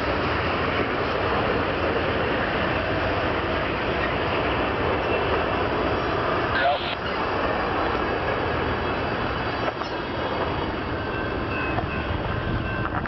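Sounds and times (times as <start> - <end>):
train cars rolling on rails: 0.0 - 13.0.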